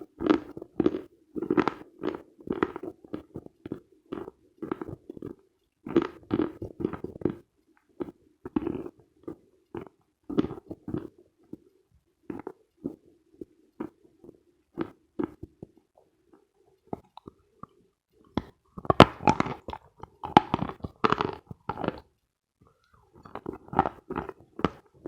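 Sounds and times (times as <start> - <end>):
soft mouth sounds: 0.0 - 25.0
chewing chalk crunches: 0.2 - 11.7, 12.3 - 25.0.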